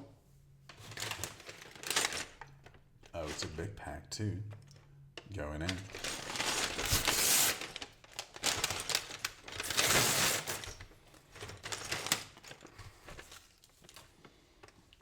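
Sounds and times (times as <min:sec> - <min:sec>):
plastic bag crinkling: 0:00.7 - 0:03.6, 0:05.3 - 0:14.8.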